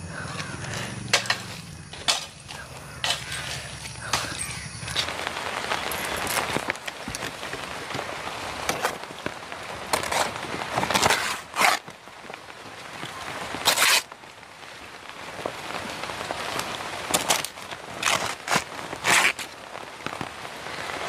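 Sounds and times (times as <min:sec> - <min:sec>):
leaves ripping and crackling: 0:00.0 - 0:14.3, 0:15.1 - 0:21.0
light drizzle pattering: 0:00.0 - 0:21.0.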